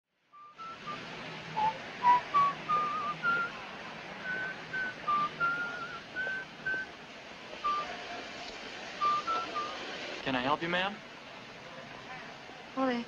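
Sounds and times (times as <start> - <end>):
background hiss: 0.2 - 13.0.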